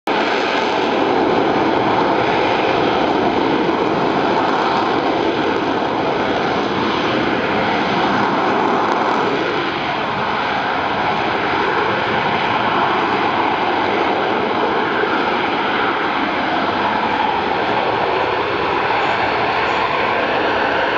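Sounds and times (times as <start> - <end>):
loud jet roar: 0.1 - 20.9.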